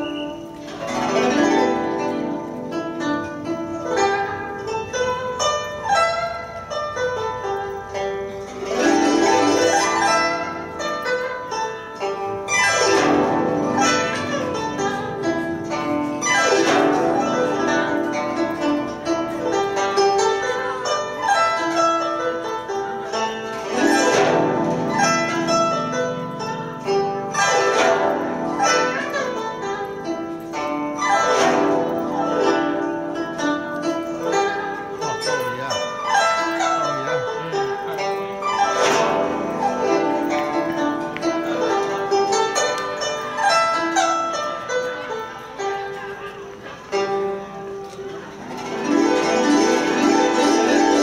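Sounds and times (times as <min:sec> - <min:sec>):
plucked string music: 0:00.0 - 0:51.0.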